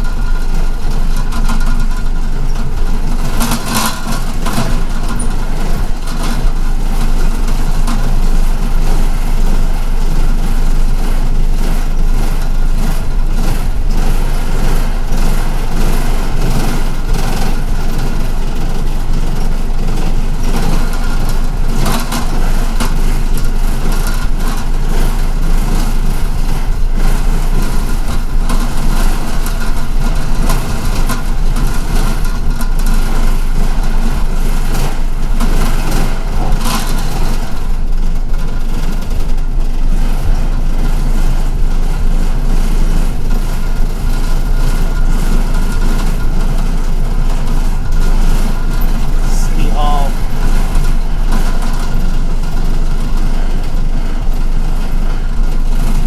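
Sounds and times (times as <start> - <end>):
bus engine drone: 0.0 - 56.0
road and cabin rumble: 0.0 - 56.0.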